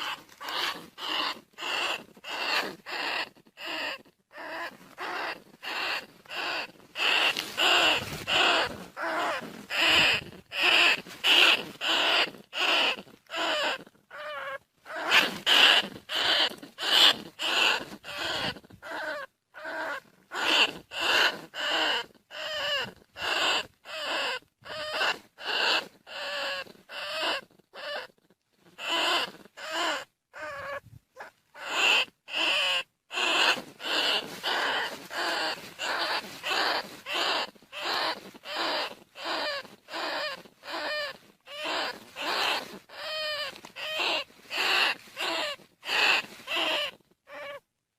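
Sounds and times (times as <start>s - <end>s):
rat calling: 0.0s - 47.7s.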